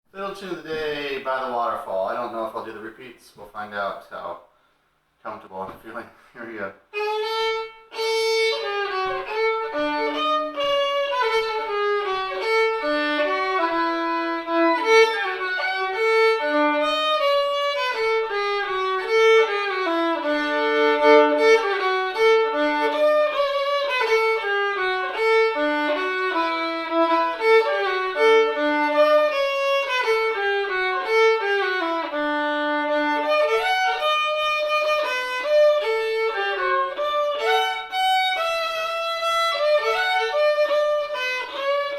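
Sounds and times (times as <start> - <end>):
solo fiddle playing a running melody: 6.9 - 41.9.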